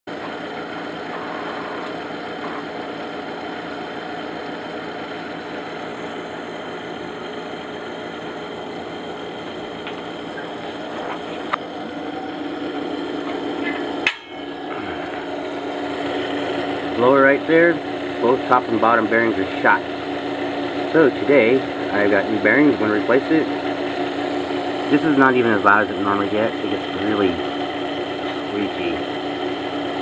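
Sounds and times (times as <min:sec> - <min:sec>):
exhaust blower whirring: 0:00.1 - 0:30.0.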